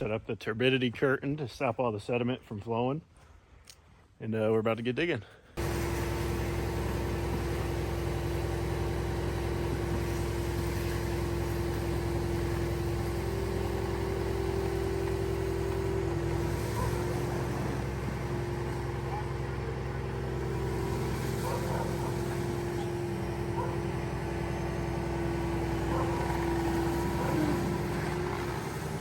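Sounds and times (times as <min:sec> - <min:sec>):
excavator engine humming: 0:05.6 - 0:29.0.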